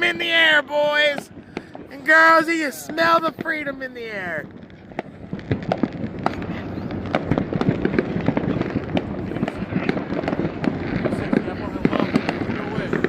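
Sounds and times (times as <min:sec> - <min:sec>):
fireworks popping and crackling: 0:00.0 - 0:13.0.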